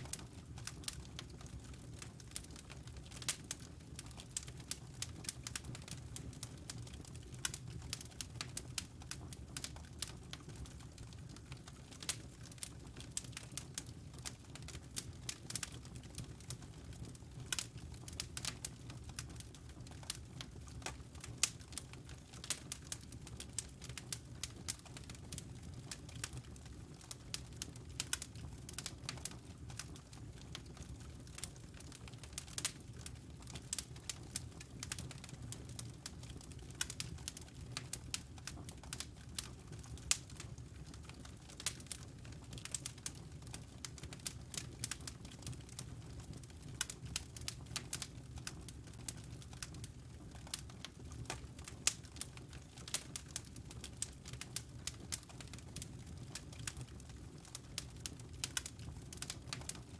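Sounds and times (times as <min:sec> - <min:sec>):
low fire rumble: 0:00.0 - 0:59.9
wood fire crackling and popping: 0:00.0 - 0:59.9.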